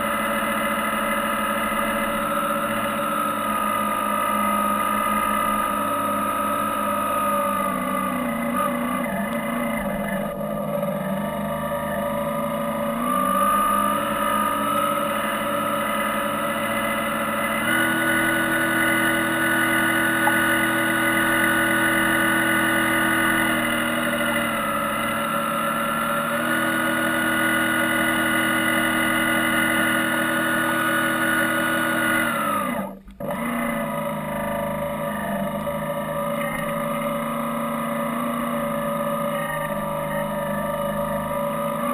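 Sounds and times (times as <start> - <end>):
model boat motor whining: 0.0 - 41.9.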